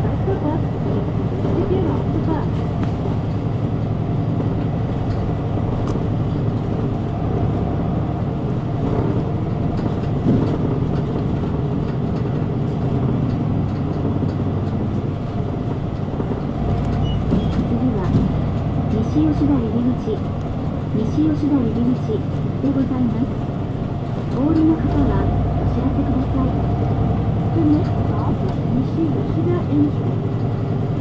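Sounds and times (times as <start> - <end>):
bus engine droning: 0.0 - 31.0
road noise: 0.0 - 31.0.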